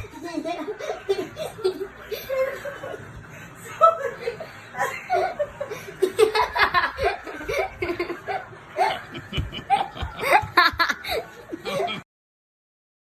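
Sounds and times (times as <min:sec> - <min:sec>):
hearty laughter: 0:00.7 - 0:12.0.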